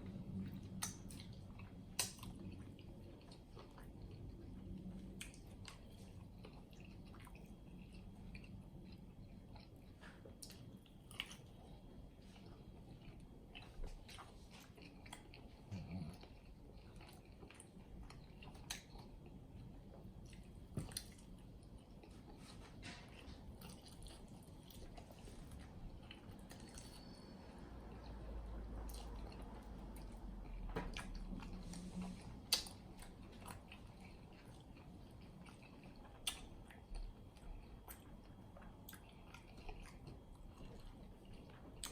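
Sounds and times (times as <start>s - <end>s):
person chewing wet smacking: 0.2s - 27.3s, 27.9s - 41.9s.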